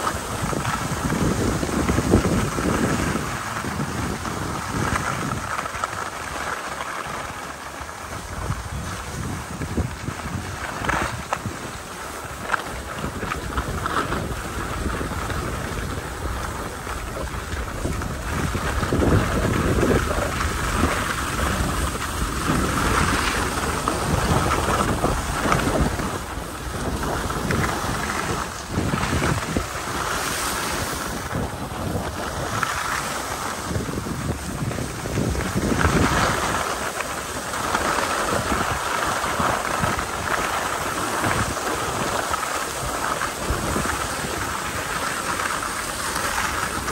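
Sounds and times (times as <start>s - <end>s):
steady rushing noise: 0.0s - 46.9s
wind buffeting microphone: 0.0s - 46.9s.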